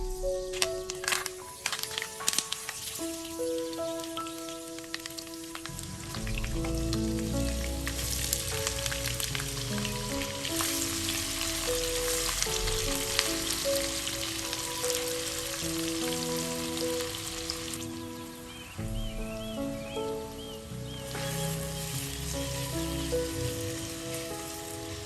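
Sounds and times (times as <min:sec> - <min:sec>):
food sizzling in hot oil: 0:00.0 - 0:18.7, 0:20.0 - 0:25.0
background music: 0:00.0 - 0:25.0.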